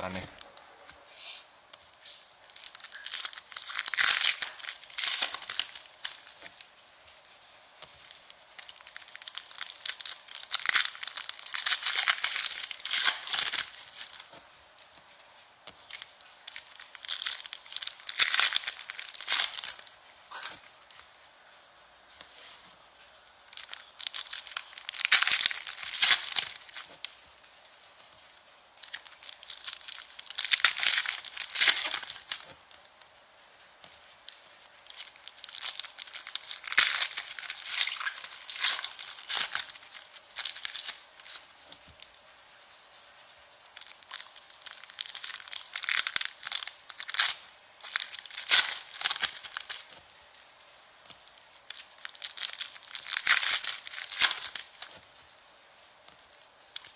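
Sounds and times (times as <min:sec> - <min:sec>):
foil wrappers tearing and crinkling: 0:01.8 - 0:14.4, 0:15.8 - 0:21.0, 0:23.3 - 0:27.6, 0:28.2 - 0:33.1, 0:34.0 - 0:42.2, 0:43.1 - 0:55.1, 0:56.2 - 0:56.9.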